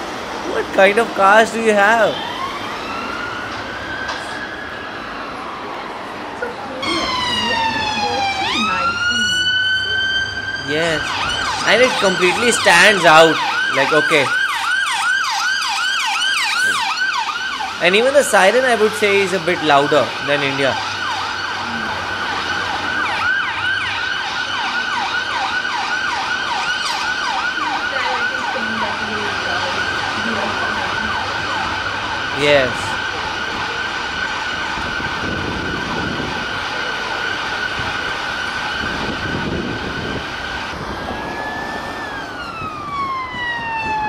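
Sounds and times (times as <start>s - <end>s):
siren wailing: 0.4s - 44.0s
siren yelping: 0.4s - 44.0s.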